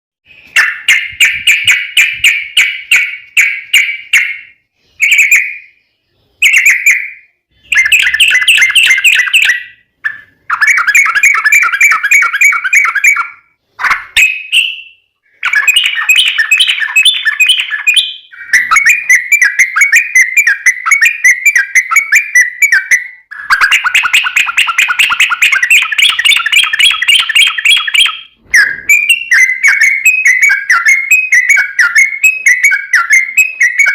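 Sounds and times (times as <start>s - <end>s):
bird singing rapid chattering phrases: 0.3s - 33.9s.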